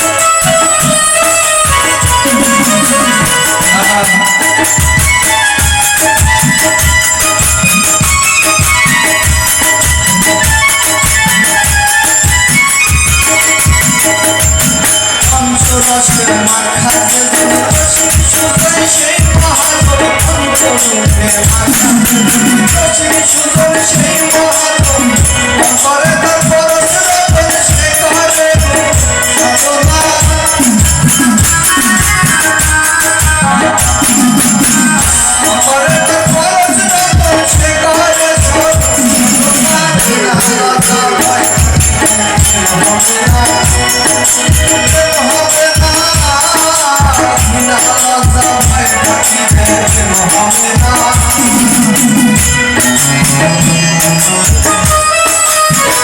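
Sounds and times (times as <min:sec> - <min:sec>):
drum beat: 0:00.0 - 0:56.0
jingling hand percussion: 0:00.0 - 0:56.0.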